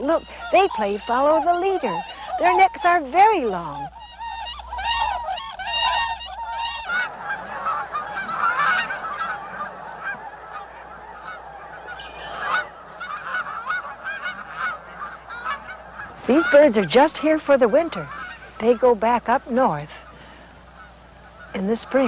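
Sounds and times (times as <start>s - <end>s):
flock of waterfowl calling: 0.0s - 22.0s
swans whooping calls: 0.0s - 22.0s.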